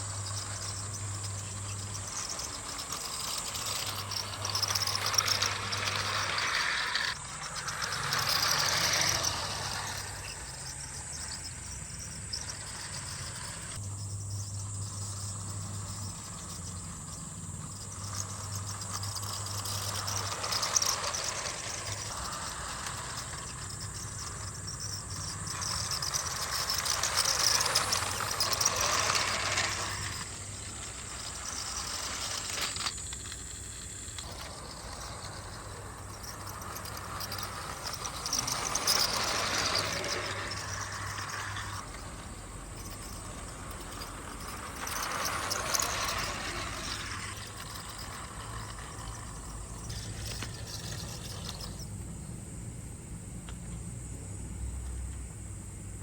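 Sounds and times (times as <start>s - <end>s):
toy train whirring rattle: 0.0s - 52.4s.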